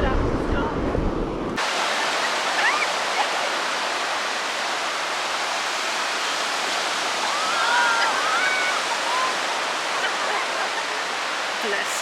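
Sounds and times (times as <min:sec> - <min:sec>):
rushing water hiss: 0:01.6 - 0:12.0.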